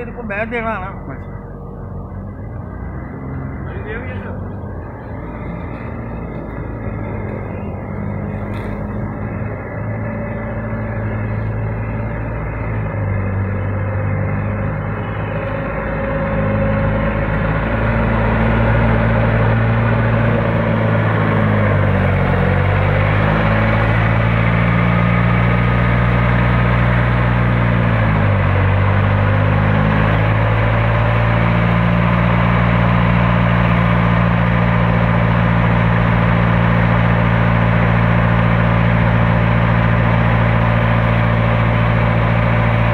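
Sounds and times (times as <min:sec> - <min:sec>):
forklift engine running: 0:00.0 - 0:42.9.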